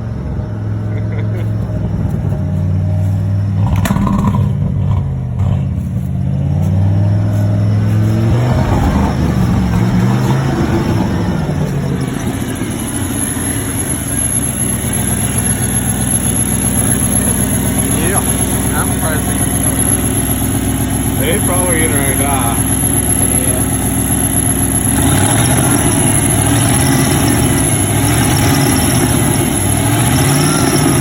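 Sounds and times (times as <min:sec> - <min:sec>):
truck engine running unevenly: 0:00.0 - 0:31.0.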